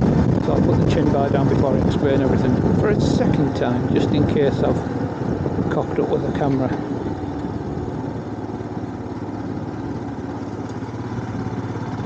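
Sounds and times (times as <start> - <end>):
wind noise on microphone: 0.0 - 10.7
motorcycle engine running: 0.0 - 12.0.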